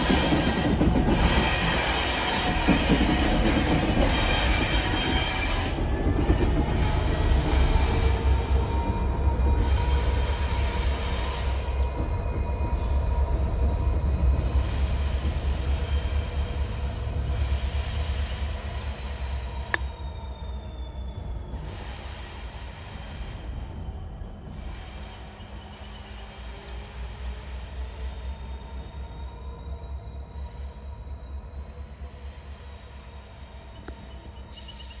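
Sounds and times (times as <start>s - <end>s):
locomotive engine and wheel rumble: 0.0s - 35.0s
wheels squealing on rail: 0.0s - 35.0s.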